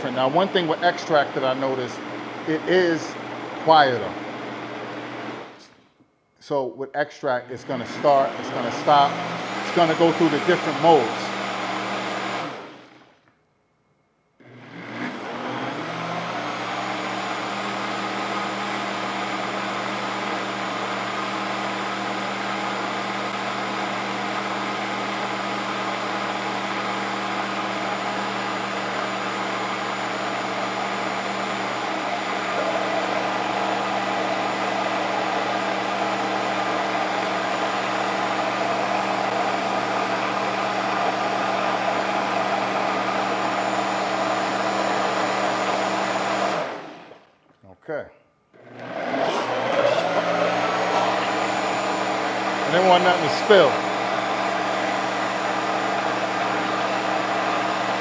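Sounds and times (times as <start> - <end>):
blender motor running: 0.0 - 5.7, 7.5 - 13.2, 14.4 - 47.3, 48.5 - 58.0.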